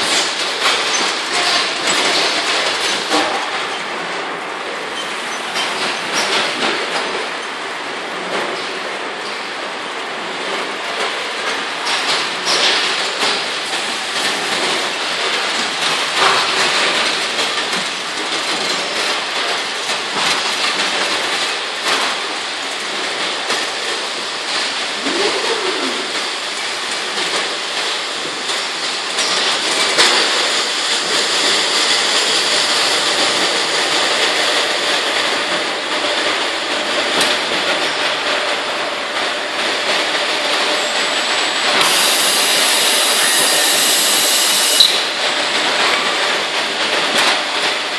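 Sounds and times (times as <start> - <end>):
roller conveyors running: 0.0 - 47.9.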